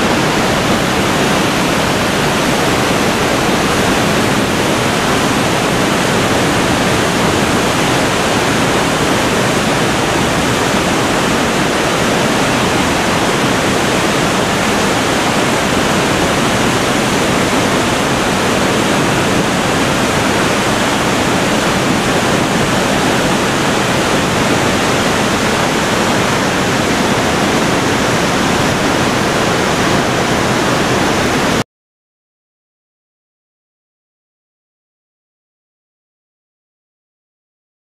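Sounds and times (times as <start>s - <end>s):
waterfall rushing into pool: 0.0s - 31.6s.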